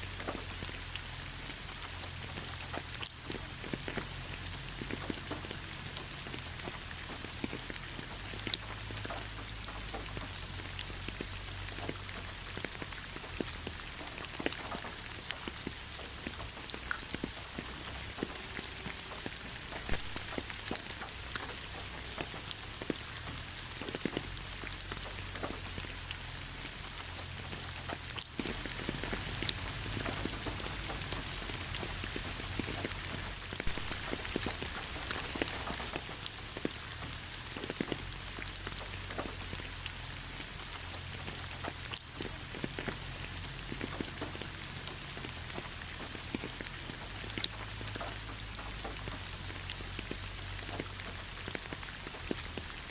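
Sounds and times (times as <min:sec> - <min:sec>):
steady rain with ticking drops: 0:00.0 - 0:52.9.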